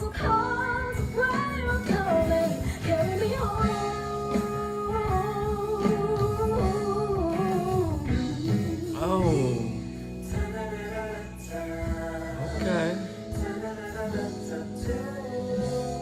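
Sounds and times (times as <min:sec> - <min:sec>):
live band with guitar: 0:00.0 - 0:16.0
woman singing ballad: 0:00.0 - 0:16.0.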